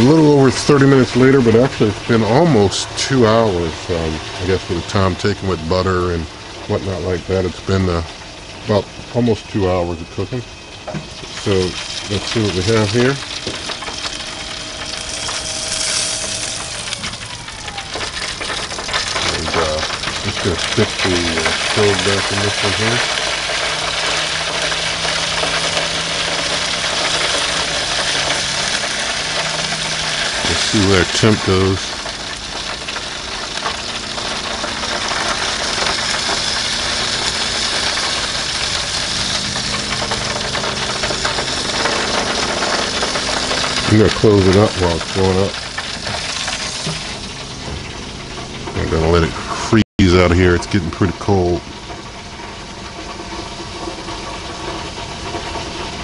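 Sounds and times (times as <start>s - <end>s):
faint falling whine: 0.0s - 56.0s
gas grill sizzling: 0.0s - 56.0s
low hum: 0.0s - 56.0s.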